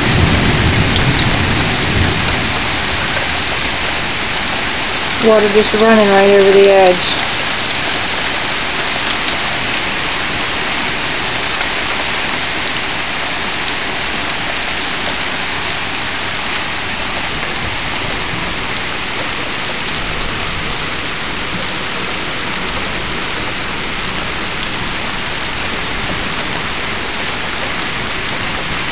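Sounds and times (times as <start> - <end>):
heavy hail downpour: 0.0 - 28.9
water running over an edge: 0.0 - 28.9.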